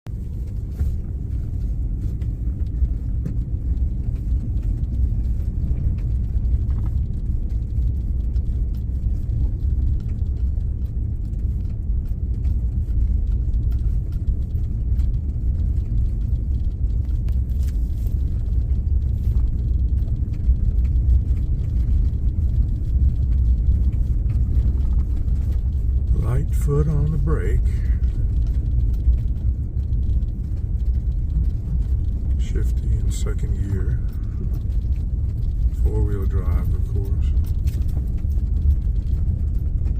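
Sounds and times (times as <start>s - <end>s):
vehicle rumble inside cab: 0.0s - 39.9s.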